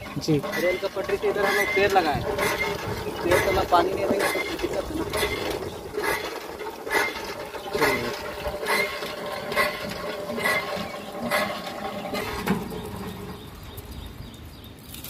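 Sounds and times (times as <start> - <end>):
hand pump clanking: 0.0 - 14.0.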